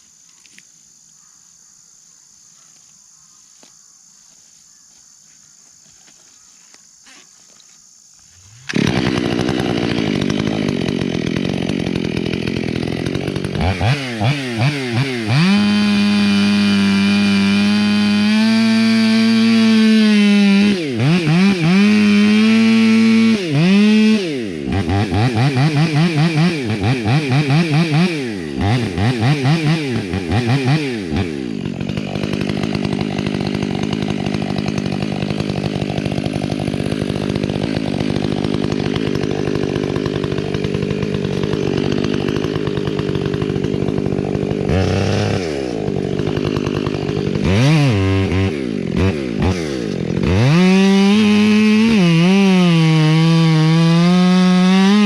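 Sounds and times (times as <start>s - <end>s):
chainsaw revving: 8.3s - 55.0s.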